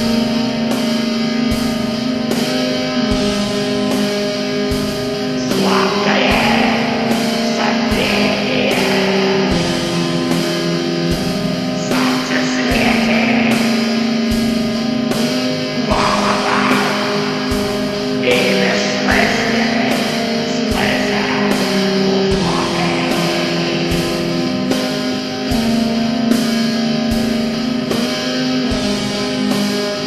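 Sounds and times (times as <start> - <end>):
droning electric guitar chords: 0.0 - 30.0.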